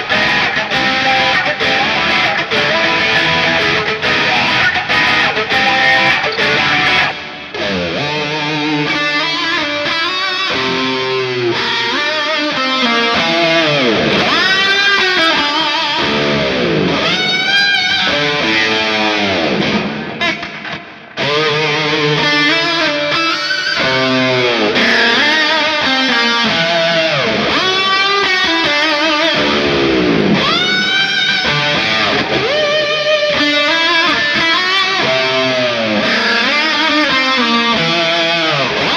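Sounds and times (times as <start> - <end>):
distorted electric guitar lead: 0.0 - 38.9.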